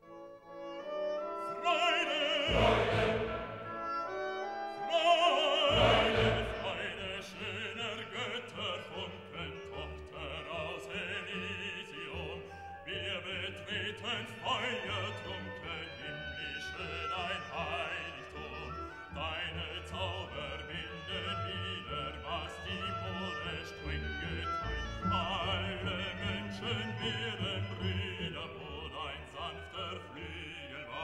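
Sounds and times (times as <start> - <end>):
orchestral accompaniment: 0.0 - 31.0
operatic voice singing: 1.4 - 3.8, 4.8 - 31.0.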